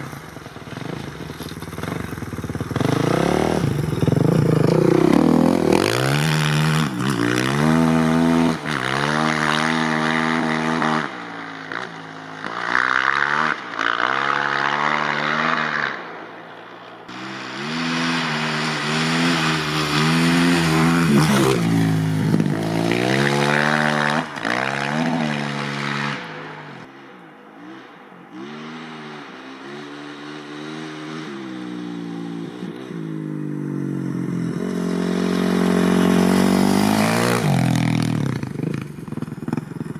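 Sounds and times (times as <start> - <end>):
dirt bike engine revving: 0.0 - 16.1, 17.1 - 26.9, 27.6 - 39.9.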